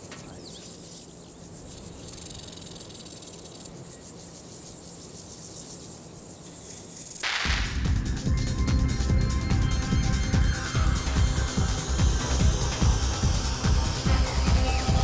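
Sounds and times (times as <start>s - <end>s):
grasshopper stridulating: 0.0s - 15.0s.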